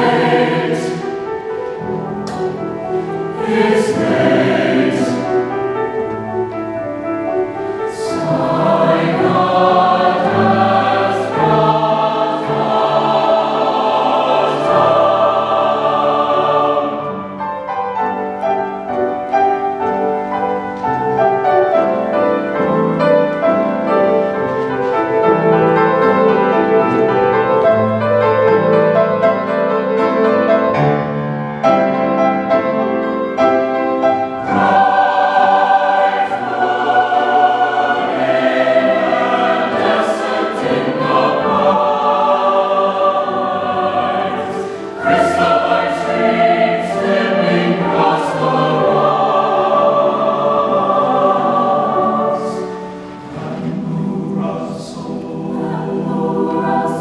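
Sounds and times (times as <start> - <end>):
choir singing in harmony: 0.0 - 57.0.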